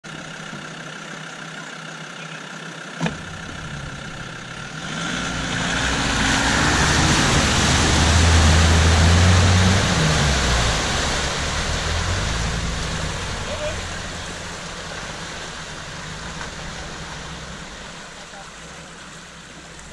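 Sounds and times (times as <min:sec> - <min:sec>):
diesel engine pulling through mud: 0:00.0 - 0:19.9
tyres churning through muddy water: 0:00.1 - 0:19.9.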